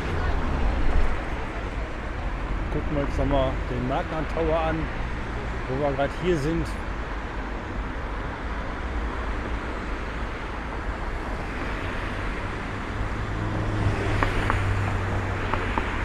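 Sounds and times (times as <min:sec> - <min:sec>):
passing cars road noise: 0:00.0 - 0:16.0.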